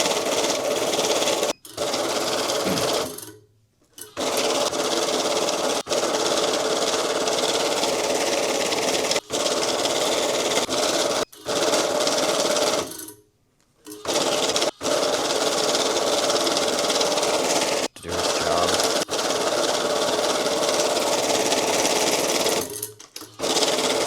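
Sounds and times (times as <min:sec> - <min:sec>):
electric banknote counter running: 0:00.0 - 0:03.3, 0:04.0 - 0:13.1, 0:13.9 - 0:24.0.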